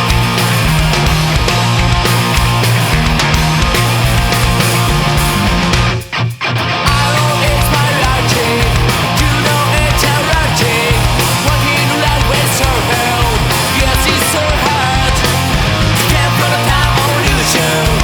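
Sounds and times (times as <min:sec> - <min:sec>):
punk rock band playing: 0:00.0 - 0:18.0.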